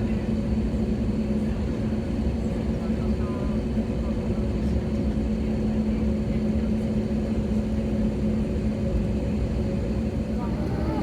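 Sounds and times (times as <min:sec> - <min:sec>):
airplane cabin low rumble: 0:00.0 - 0:11.0
jet engines idling hum: 0:00.0 - 0:11.0.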